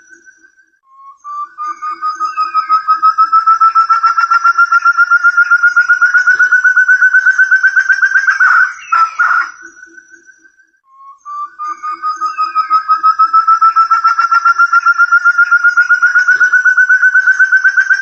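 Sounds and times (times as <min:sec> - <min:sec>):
partridge whistled call: 0:00.0 - 0:18.0.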